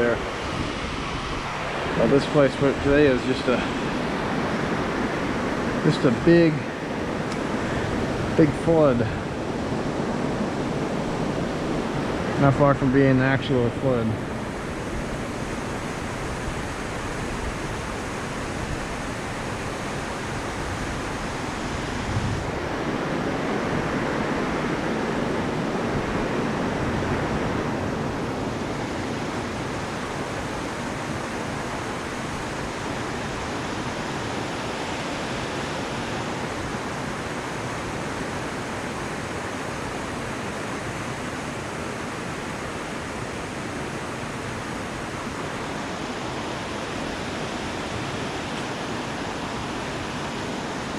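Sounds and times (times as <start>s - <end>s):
river rushing through whitewater: 0.0s - 50.9s.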